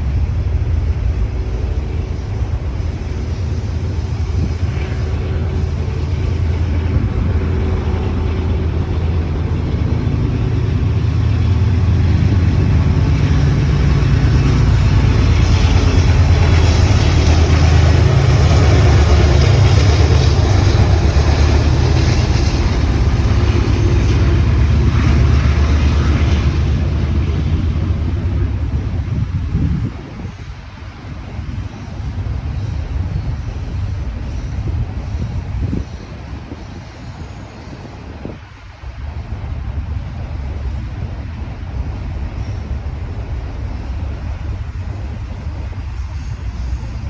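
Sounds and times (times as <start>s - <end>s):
diesel locomotive rumble: 0.0s - 47.0s
train wheels on rails: 0.0s - 47.0s.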